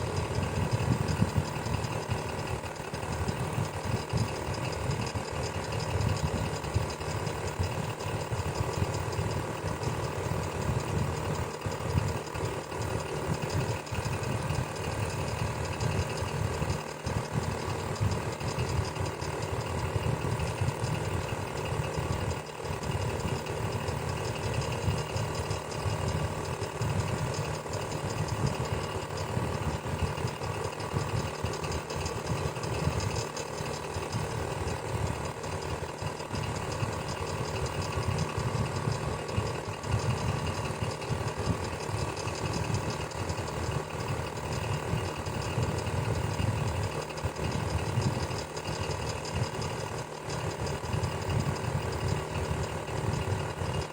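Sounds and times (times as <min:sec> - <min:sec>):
electric fan whirring: 0:00.0 - 0:53.9.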